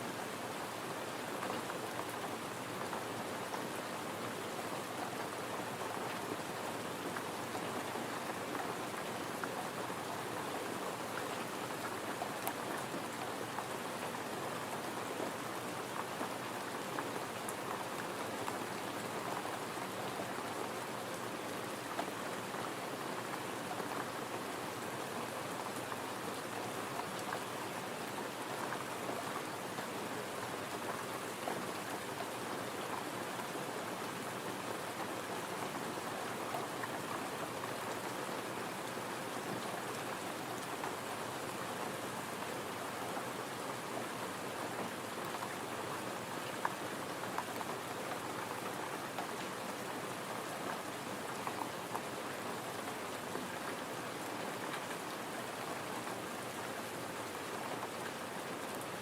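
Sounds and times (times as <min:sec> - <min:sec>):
gentle rain hiss: 0:00.0 - 0:59.0.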